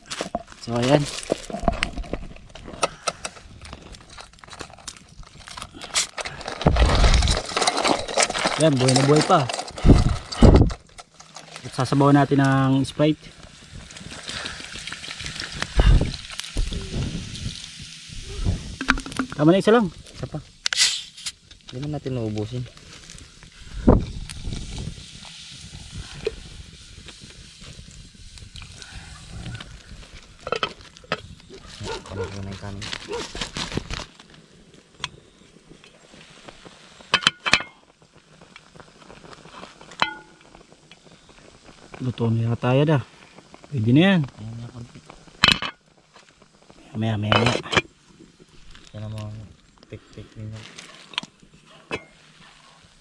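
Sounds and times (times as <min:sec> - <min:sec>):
sharp pops of fire: 0:00.0 - 0:11.8, 0:13.4 - 0:28.8, 0:29.6 - 0:49.8
wood fire crackling: 0:00.0 - 0:53.0.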